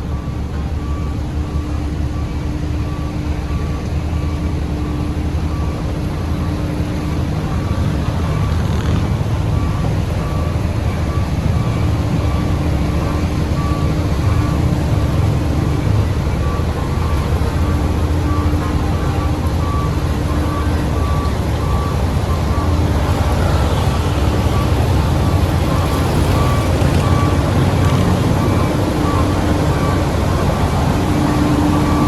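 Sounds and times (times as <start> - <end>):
diesel construction machinery running: 0.0 - 32.0
reversing alarm beeping: 0.0 - 32.0.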